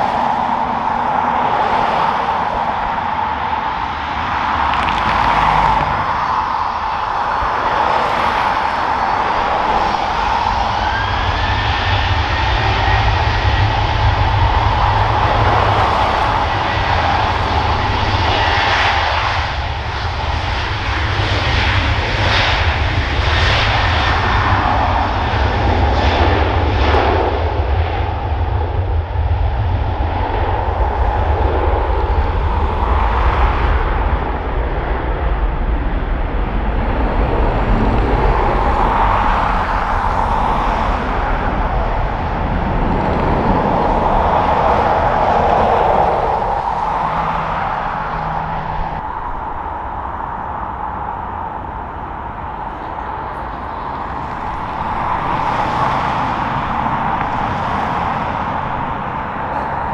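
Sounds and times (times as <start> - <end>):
airliner engines running: 0.0 - 59.9
wind rumble on microphone: 0.0 - 59.9.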